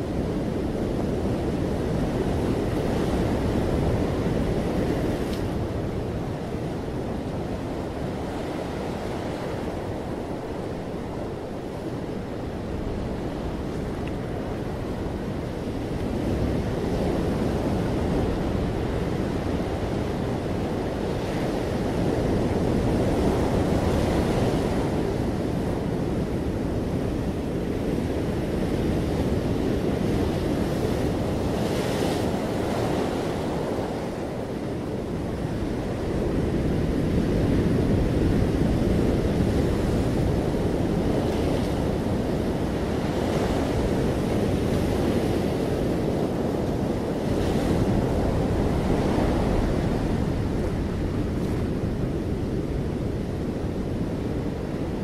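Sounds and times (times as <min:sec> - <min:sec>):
ocean surf washing up beach: 0:00.0 - 0:55.0.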